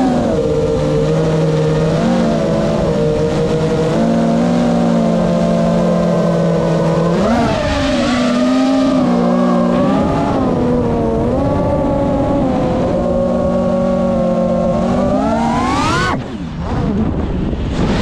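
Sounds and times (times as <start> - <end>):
quadcopter motors whining: 0.0 - 16.6.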